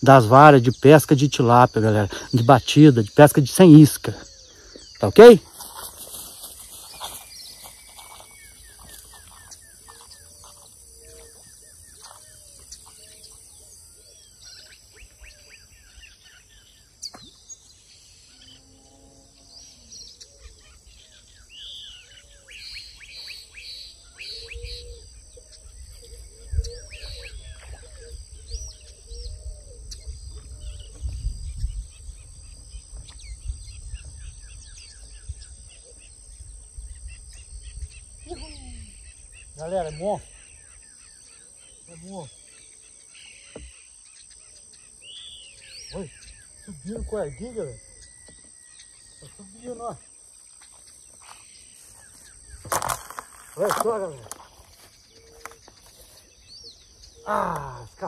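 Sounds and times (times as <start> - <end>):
birds chirping: 0.0 - 58.0
insect buzz: 0.0 - 58.0.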